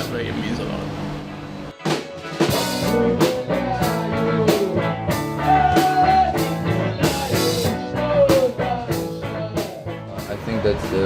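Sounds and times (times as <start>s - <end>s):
electric guitar bending notes: 0.0s - 11.0s
drum kit beat: 1.7s - 11.0s.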